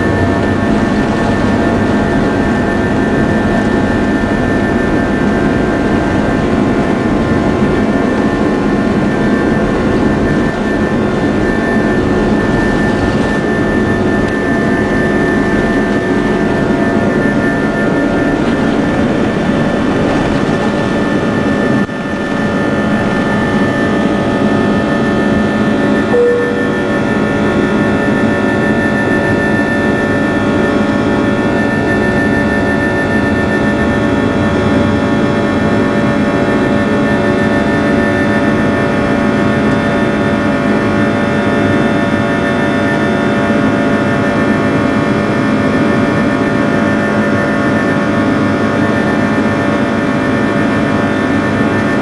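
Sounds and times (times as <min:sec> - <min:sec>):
jet engine roar with whine: 0:00.0 - 0:52.0.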